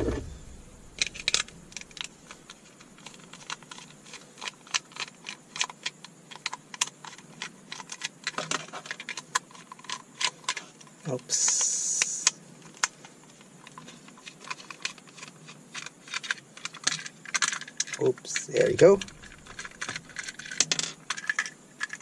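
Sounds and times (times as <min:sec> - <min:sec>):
hands on plastic shell: 0:00.9 - 0:22.0.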